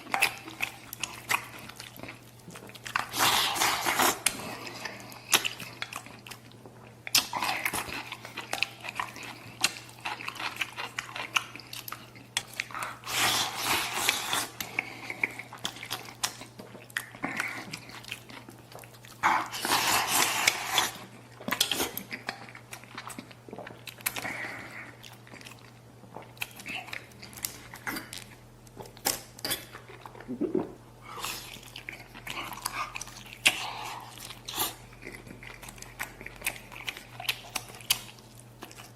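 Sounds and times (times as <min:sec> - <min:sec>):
person chewing close up: 0:00.0 - 0:38.9.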